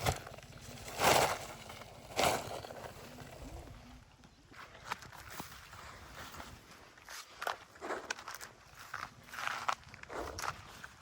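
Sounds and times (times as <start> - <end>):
dry leaves crunching: 0.0 - 3.7, 5.2 - 11.0.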